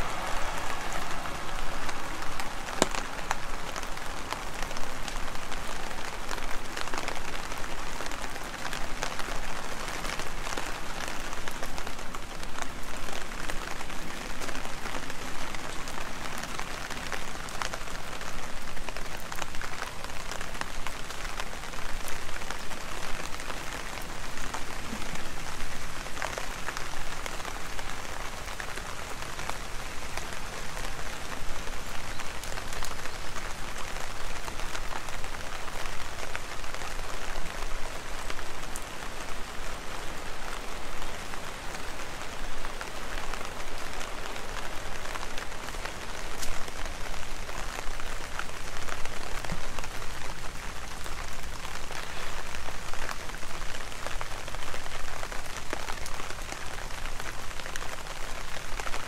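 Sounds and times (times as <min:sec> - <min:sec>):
close raindrops tapping sharply: 0:00.0 - 0:59.0
heavy rain hissing: 0:00.0 - 0:59.0.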